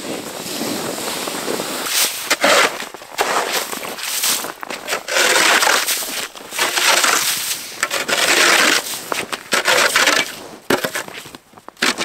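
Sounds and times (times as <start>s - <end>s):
shovel scraping slush on ice: 0.1s - 12.0s.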